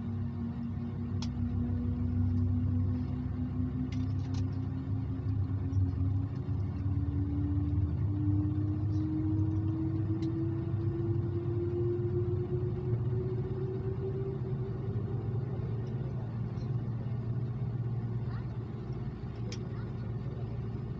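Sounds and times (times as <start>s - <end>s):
aircraft cabin engine rumble: 0.0s - 20.9s.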